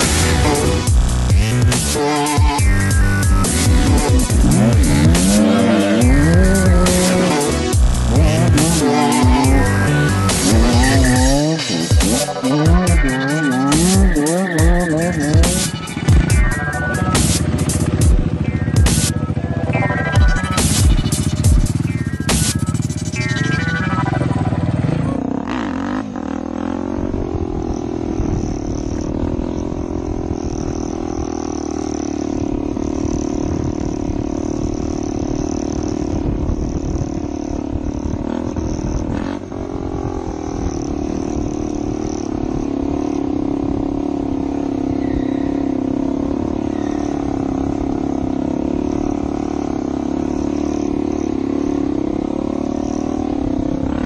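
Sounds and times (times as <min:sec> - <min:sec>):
dirt bike engine revving high: 0:00.0 - 0:54.0.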